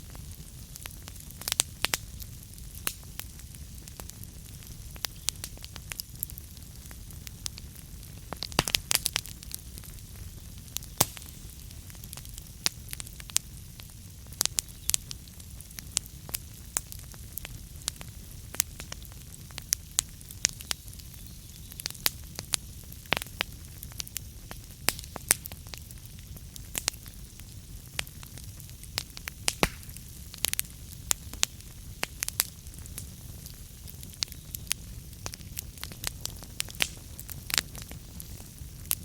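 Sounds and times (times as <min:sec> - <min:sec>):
logs crackling and popping: 0:00.0 - 0:39.0
low rumble of flames: 0:00.0 - 0:39.0.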